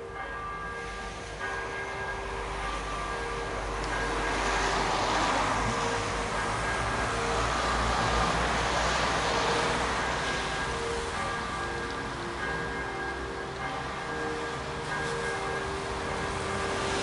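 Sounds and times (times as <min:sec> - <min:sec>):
electronic church bells ringing: 0:00.0 - 0:17.0
passing road vehicle: 0:00.8 - 0:17.0.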